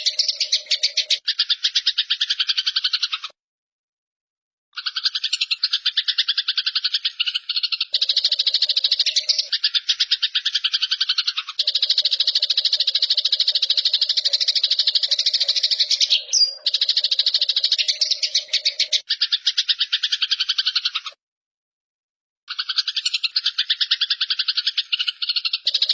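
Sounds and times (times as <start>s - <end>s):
sparrows chattering: 0.0s - 3.4s, 4.8s - 21.2s, 22.5s - 25.9s.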